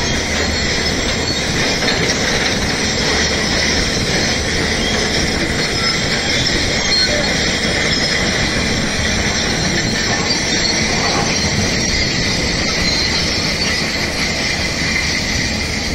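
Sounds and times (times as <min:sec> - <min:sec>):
excavator diesel engine: 0:00.0 - 0:15.9
hydraulics whining: 0:00.0 - 0:15.9.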